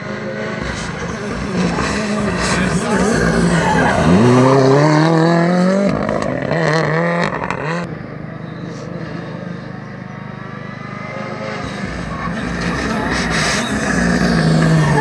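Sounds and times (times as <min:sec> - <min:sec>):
distant car engine approaching: 0:00.0 - 0:15.0
rally car accelerating: 0:00.0 - 0:15.0.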